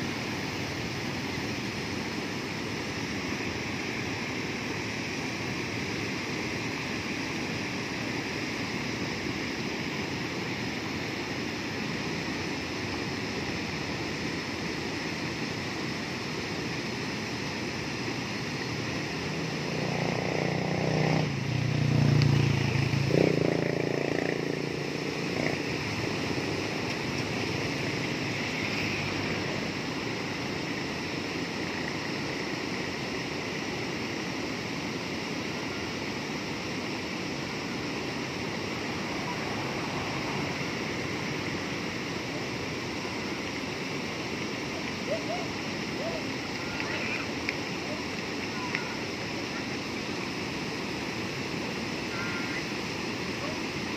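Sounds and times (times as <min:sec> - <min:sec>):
water rushing over weir: 0:00.0 - 0:53.9.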